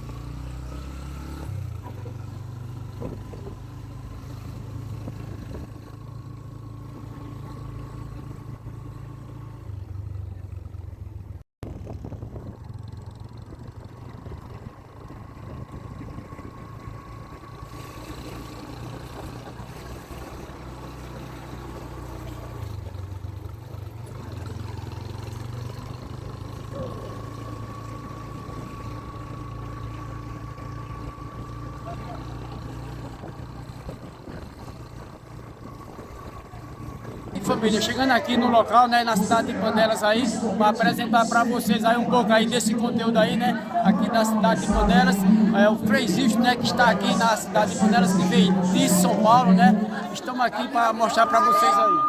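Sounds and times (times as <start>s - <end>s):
road noise: 0.0s - 52.0s
vehicle engine rumble: 0.0s - 52.0s.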